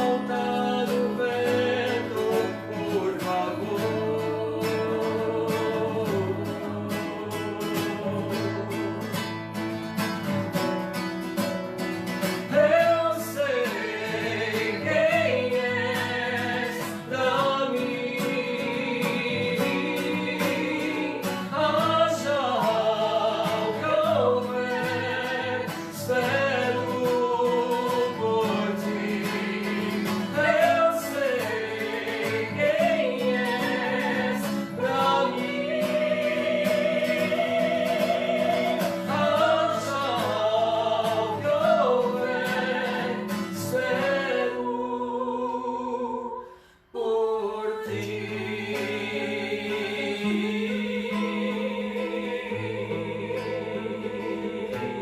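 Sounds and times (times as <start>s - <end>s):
high voice singing: 0.0s - 9.4s, 12.4s - 55.0s
acoustic guitar: 0.0s - 55.0s.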